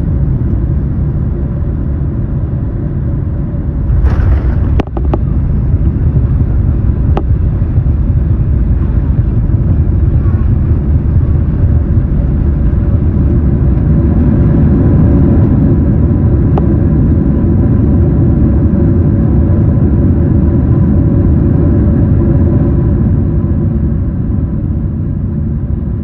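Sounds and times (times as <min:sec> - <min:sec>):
airliner cabin rumble: 0:00.0 - 0:26.0
engine hum: 0:00.0 - 0:26.0.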